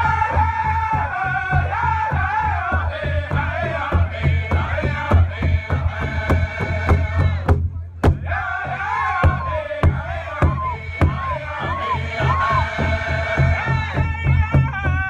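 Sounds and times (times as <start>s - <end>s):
voices singing over a beat: 0.0s - 15.0s.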